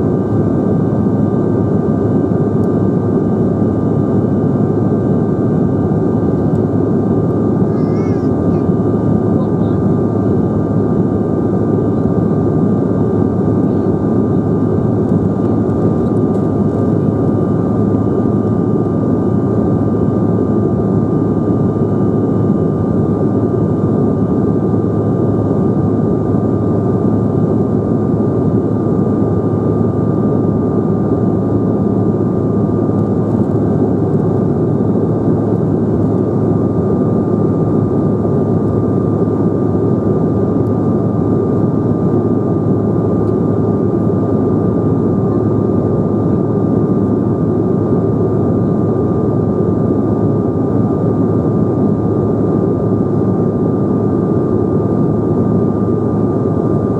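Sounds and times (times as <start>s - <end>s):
jet cabin airflow and engine roar: 0.0s - 56.9s
thin steady whine: 0.0s - 56.9s.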